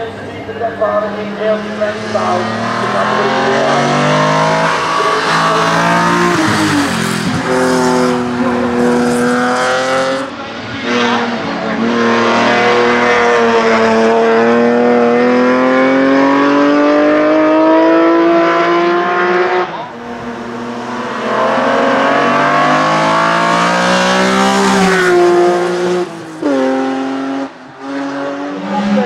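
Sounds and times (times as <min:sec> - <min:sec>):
race car engine at full throttle: 0:00.0 - 0:29.0.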